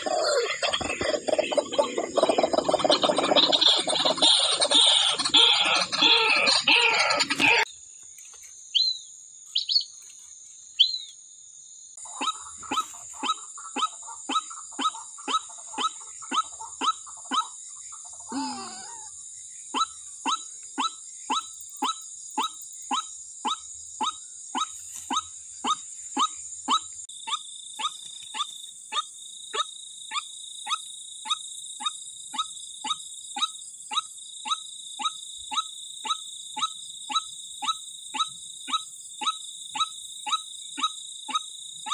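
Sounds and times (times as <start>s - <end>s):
bird clucking calls: 0.0s - 7.7s, 12.0s - 19.0s, 19.7s - 41.9s.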